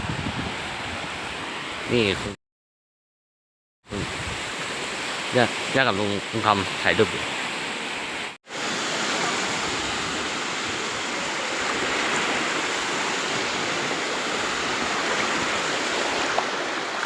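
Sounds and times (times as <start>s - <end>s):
sea waves washing on beach: 0.0s - 2.4s, 3.9s - 17.0s.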